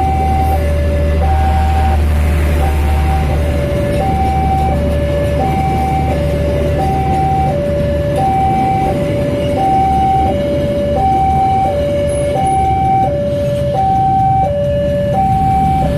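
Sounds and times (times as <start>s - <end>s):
low engine rumble: 0.0s - 15.9s
two-tone siren: 0.0s - 15.9s.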